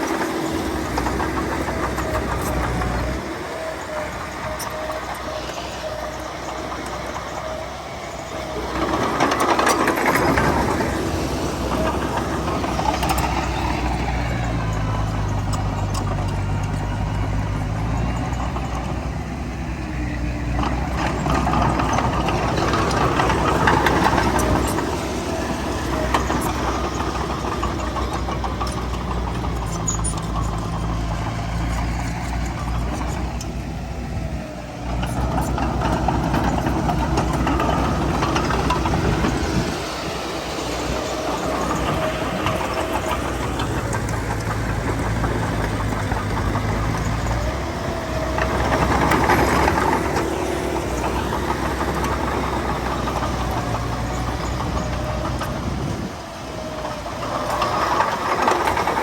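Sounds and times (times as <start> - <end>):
heavy diesel engine labouring: 0.0 - 59.0
low engine hum: 0.0 - 59.0.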